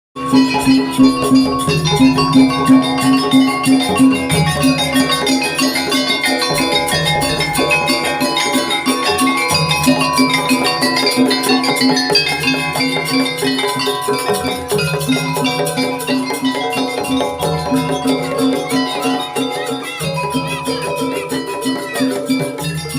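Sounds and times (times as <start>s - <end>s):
drums beating: 0.2s - 22.9s
metal percussion melody: 0.2s - 22.9s.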